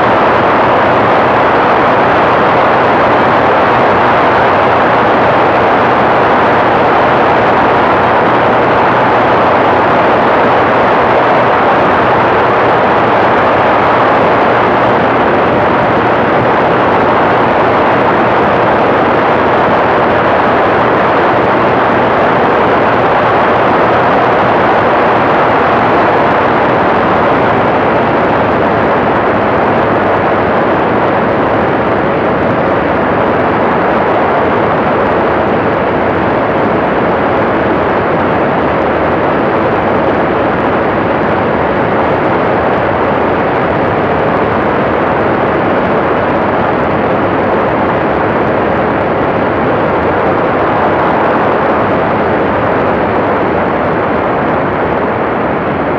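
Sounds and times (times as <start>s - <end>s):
ultralight aircraft engine and propeller: 0.0s - 55.9s.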